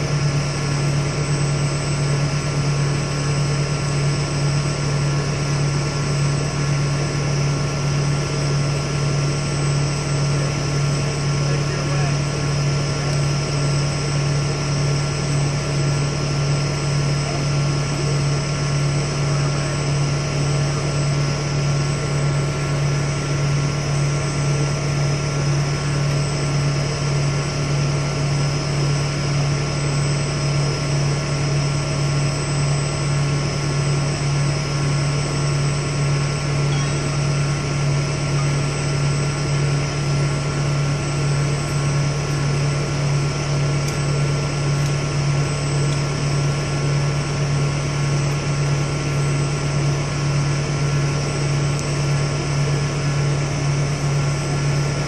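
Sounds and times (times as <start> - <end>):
engine droning steadily: 0.0 - 55.0
faint steady whines: 0.0 - 55.0.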